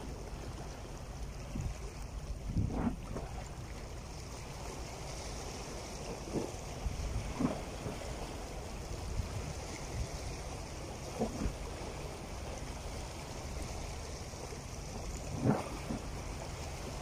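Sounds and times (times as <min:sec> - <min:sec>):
water splashes: 0:00.0 - 0:17.0
waves lapping against rocks: 0:00.0 - 0:17.0.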